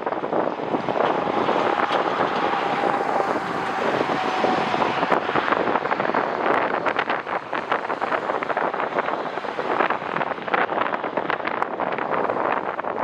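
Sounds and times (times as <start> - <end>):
jet airliner engine noise: 0.0 - 13.0
wind buffeting microphone: 0.0 - 13.0.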